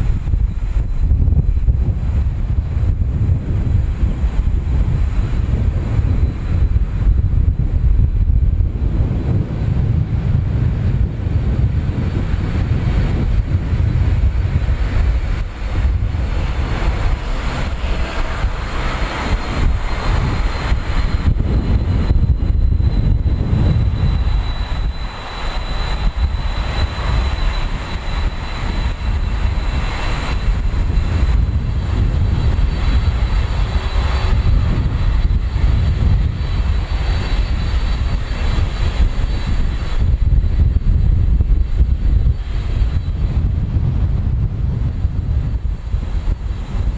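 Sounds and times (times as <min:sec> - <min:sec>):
jet engines rumbling with whine: 0:00.0 - 0:46.9.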